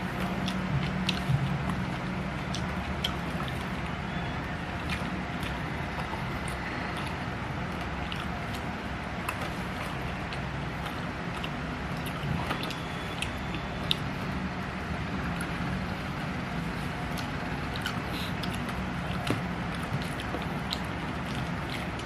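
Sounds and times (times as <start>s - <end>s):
low background rumble: 0.0s - 22.0s
wet chewing clicks: 0.0s - 22.0s.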